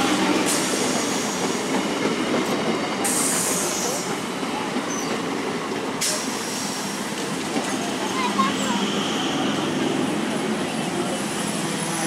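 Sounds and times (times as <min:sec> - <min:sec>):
train wheels rumbling past: 0:00.0 - 0:12.0.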